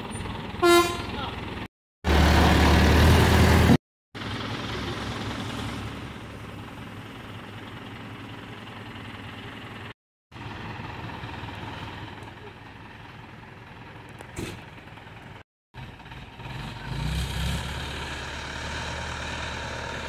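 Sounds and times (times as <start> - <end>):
crane diesel engine running: 0.0 - 17.0.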